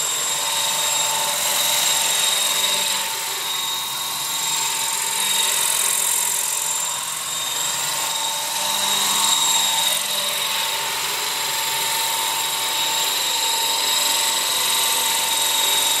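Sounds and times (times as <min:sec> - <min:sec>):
rc helicopter motor whine: 0:00.0 - 0:16.0
rotor blade noise: 0:00.0 - 0:16.0.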